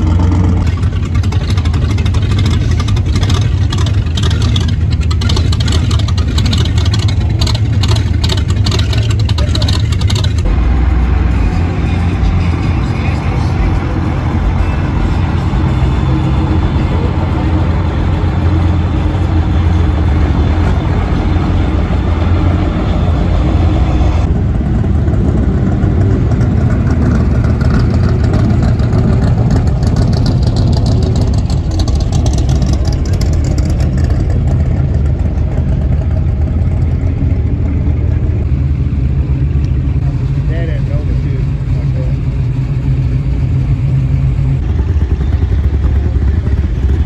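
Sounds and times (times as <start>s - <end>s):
vehicle engines rumbling past: 0.0s - 47.0s.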